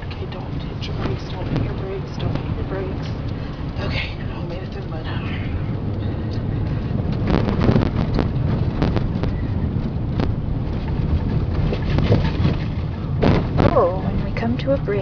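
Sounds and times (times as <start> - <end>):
car knocking and rattling: 0.0 - 15.0
engine and tyres rumbling: 0.0 - 15.0.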